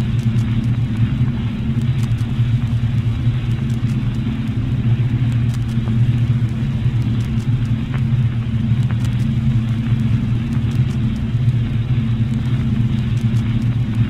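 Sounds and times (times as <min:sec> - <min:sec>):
record crackles and clicks: 0:00.0 - 0:14.0
record surface hum and hiss: 0:00.0 - 0:14.0.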